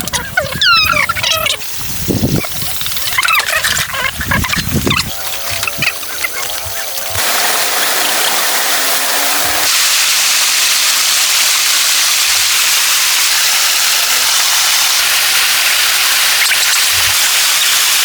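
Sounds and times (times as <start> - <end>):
falling water rushing: 0.0 - 18.0.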